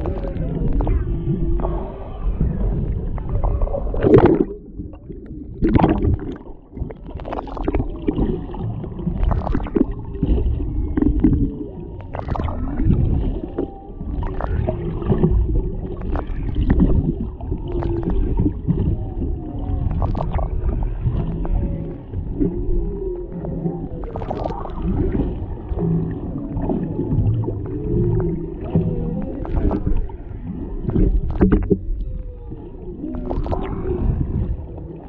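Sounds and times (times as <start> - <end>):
whale song moans: 0.0 - 6.7, 7.4 - 35.0.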